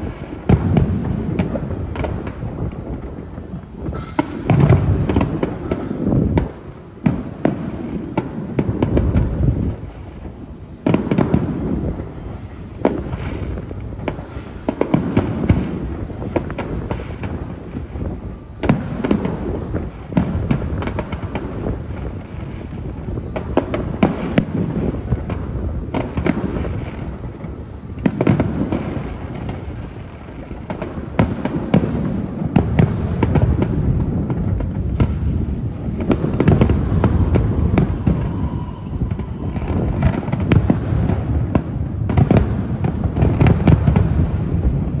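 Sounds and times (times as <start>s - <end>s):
fireworks bursting with sharp bangs: 0.0s - 45.0s
low rumble and crackle: 0.0s - 45.0s.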